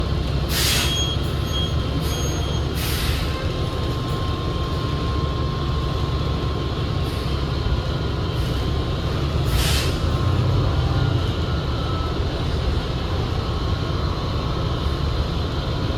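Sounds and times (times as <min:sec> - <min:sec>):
bus drivetrain rumble: 0:00.0 - 0:15.9.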